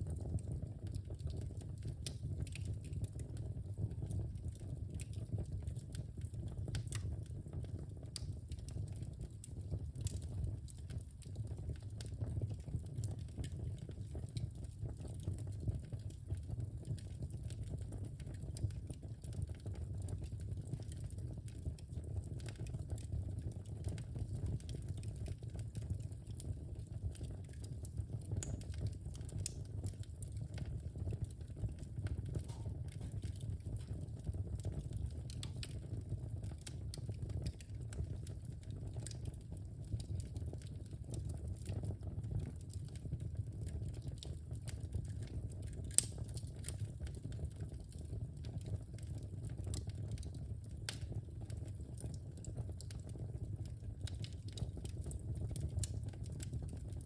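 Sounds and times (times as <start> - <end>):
wood fire crackling in fireplace: 0.0 - 57.0.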